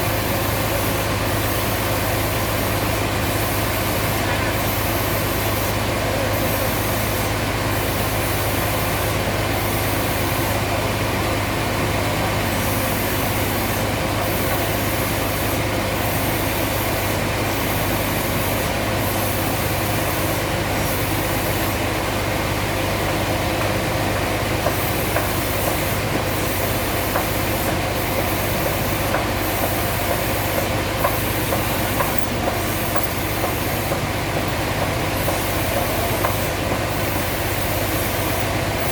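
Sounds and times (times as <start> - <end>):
machinery hiss: 0.0 - 38.9
machinery humming: 0.0 - 38.9.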